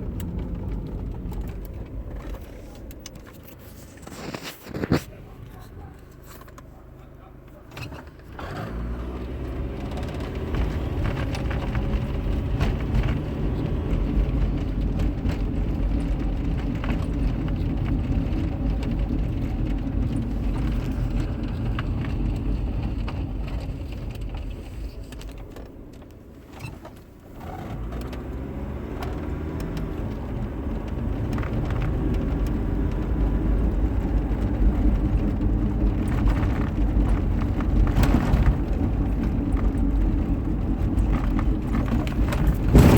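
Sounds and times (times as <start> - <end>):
car road and running noise: 0.0 - 42.9.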